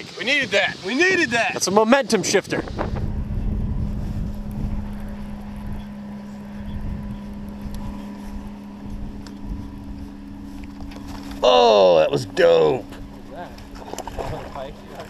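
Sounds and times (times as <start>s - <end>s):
wind rumbling on microphone: 0.0s - 15.0s
electric trolling motor humming: 1.9s - 15.0s
higher motor tone: 2.5s - 15.0s.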